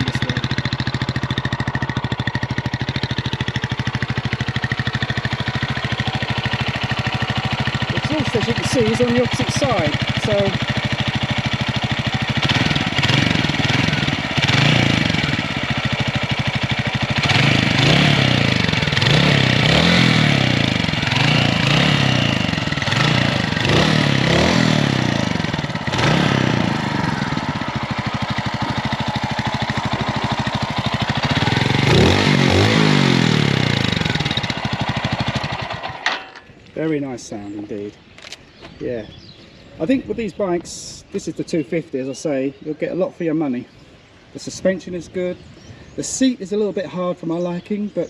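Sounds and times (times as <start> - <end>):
motorcycle engine revving: 0.0 - 42.2.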